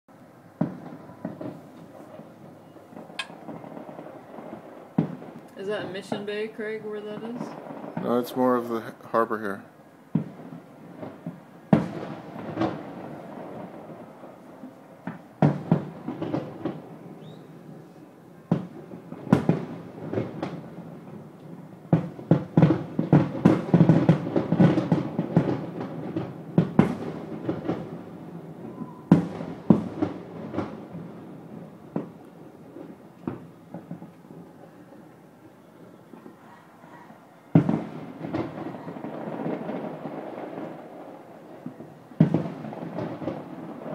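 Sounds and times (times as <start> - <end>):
distant fireworks bursting: 0.1 - 43.9.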